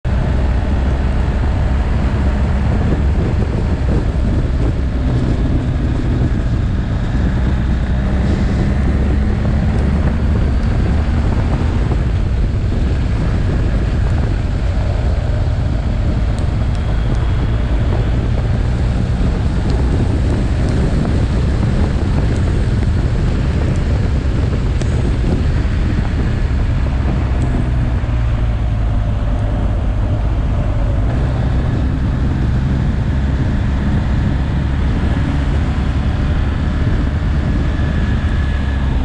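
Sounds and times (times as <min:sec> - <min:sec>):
motorcycle engine running: 0:00.0 - 0:39.0
wind rushing over microphone: 0:00.0 - 0:39.0.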